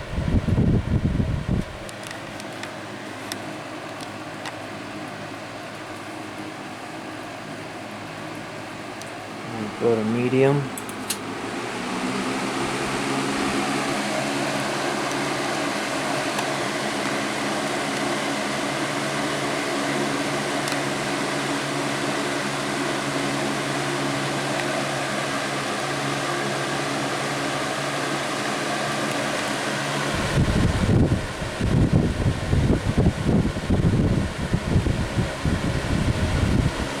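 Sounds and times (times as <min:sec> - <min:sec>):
box fan running: 0:00.0 - 0:37.0.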